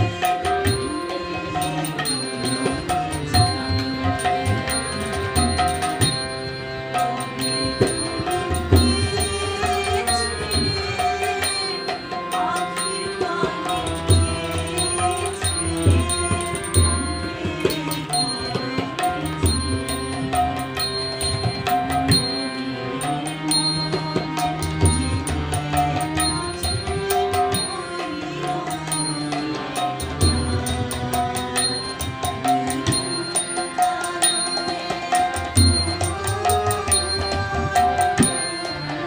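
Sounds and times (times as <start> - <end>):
harmonium chords: 0.0 - 39.0
tabla rhythm: 0.0 - 39.0
woman singing: 0.0 - 39.0.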